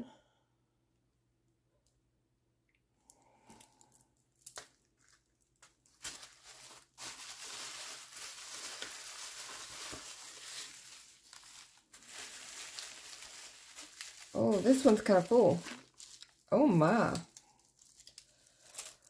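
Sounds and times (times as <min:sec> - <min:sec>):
bubble wrap crinkling: 0:03.5 - 0:19.0.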